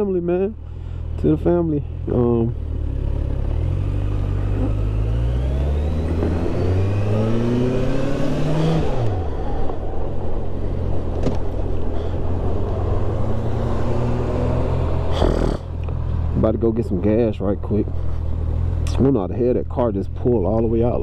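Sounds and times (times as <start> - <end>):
motorcycle engine accelerating: 1.2 - 21.0.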